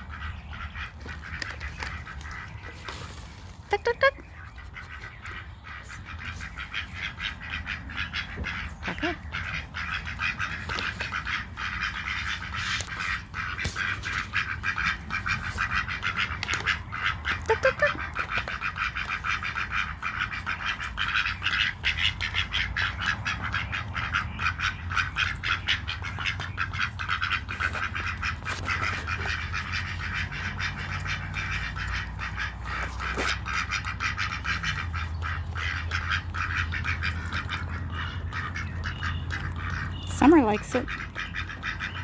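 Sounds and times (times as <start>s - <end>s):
ducks quacking: 0.0s - 42.0s.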